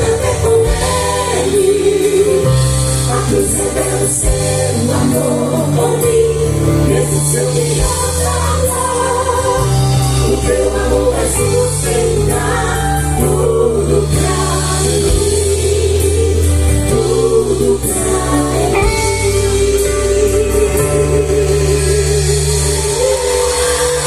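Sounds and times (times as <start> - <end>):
band with sustained bass: 0.0 - 24.0
choir singing: 0.0 - 24.0.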